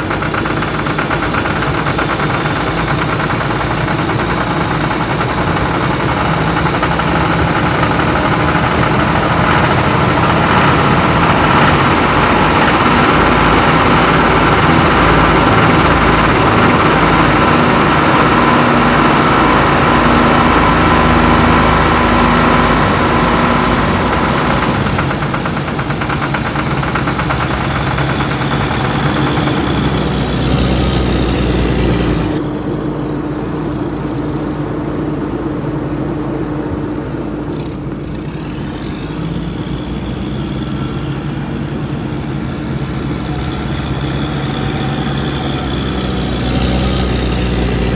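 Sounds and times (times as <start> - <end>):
heavy vehicle engines running: 0.0 - 47.9.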